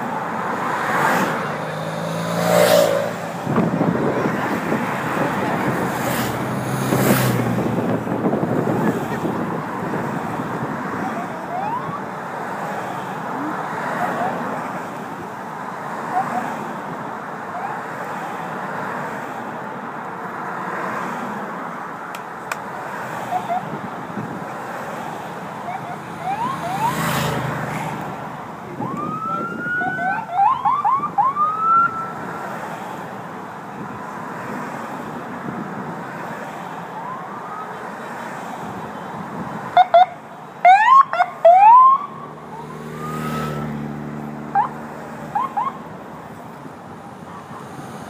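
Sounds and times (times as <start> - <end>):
road and tyre noise: 0.0 - 48.0
vehicles passing: 0.0 - 48.0.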